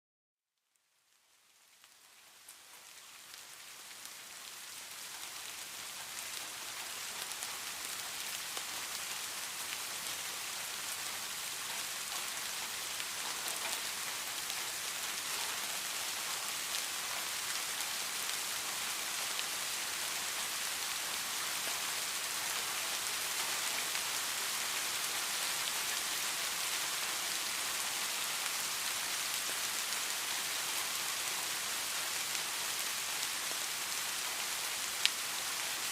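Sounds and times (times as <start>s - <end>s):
steady rain: 0.6s - 35.9s.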